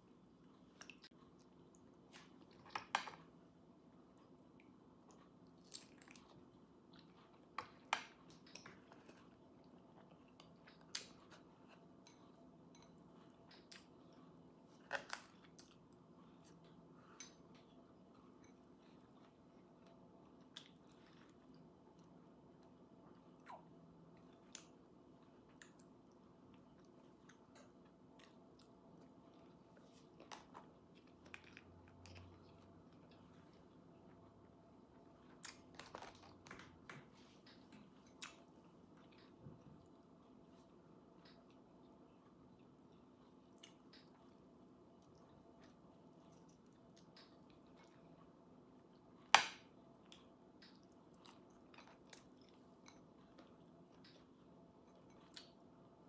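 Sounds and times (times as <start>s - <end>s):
faint chewing: 0.0s - 3.3s, 4.0s - 56.0s
faint steady hum: 0.0s - 56.0s.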